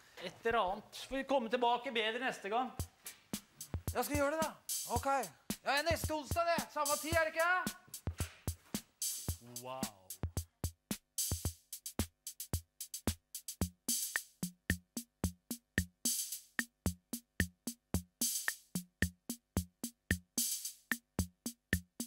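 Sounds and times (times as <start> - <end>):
drum beat: 2.8 - 22.0.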